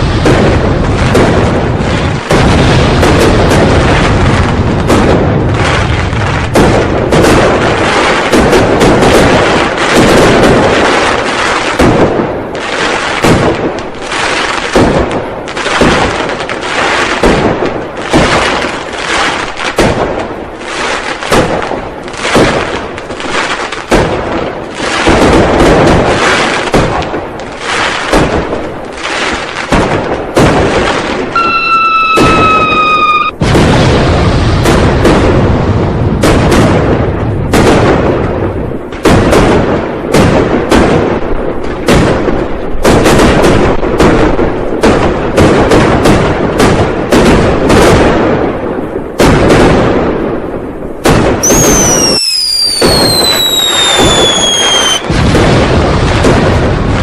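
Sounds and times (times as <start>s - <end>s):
firecrackers and fireworks banging: 0.0s - 57.0s.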